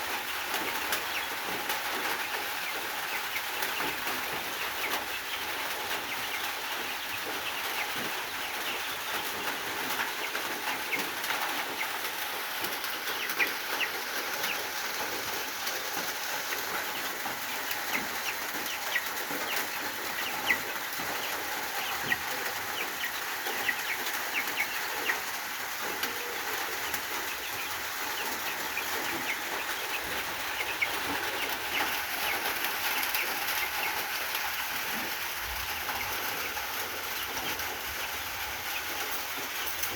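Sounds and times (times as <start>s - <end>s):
chickens chirping: 0.0s - 39.9s.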